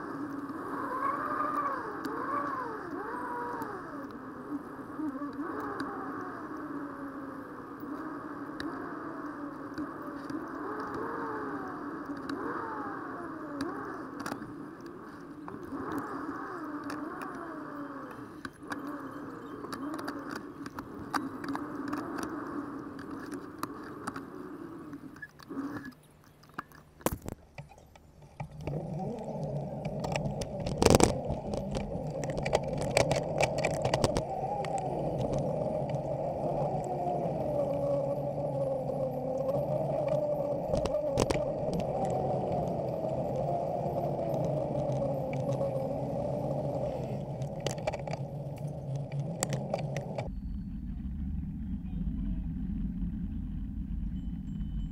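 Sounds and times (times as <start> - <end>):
bicycle rolling and rushing: 0.0 - 54.9.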